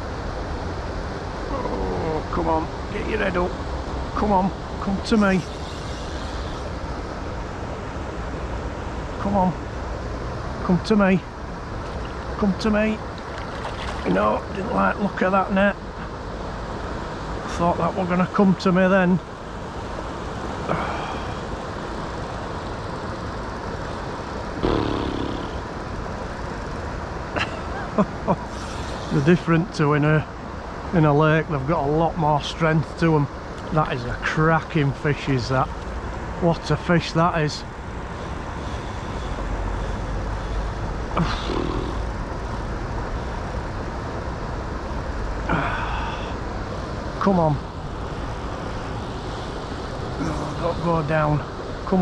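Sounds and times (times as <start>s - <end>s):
river rushing: 0.0s - 52.0s.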